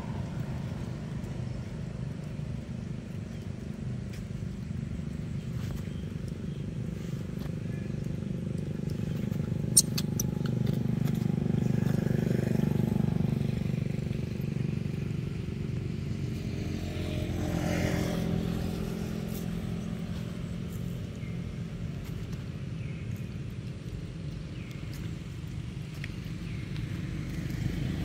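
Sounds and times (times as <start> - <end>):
vehicle engine droning: 0.0 - 28.0.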